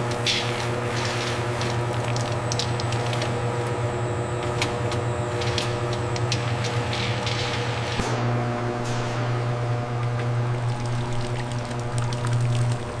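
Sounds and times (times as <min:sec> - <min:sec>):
machinery low hum: 0:00.0 - 0:13.0.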